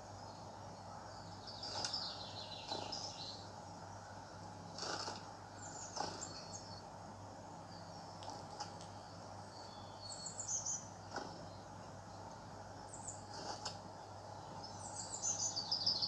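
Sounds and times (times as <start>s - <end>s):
birdsong through small speaker: 0.0s - 16.0s
steady low hum: 0.0s - 16.0s.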